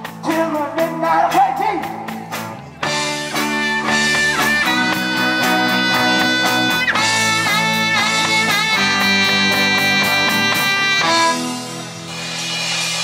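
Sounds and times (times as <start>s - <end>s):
live rock band playing: 0.0s - 13.0s
electric guitar lead: 1.8s - 13.0s.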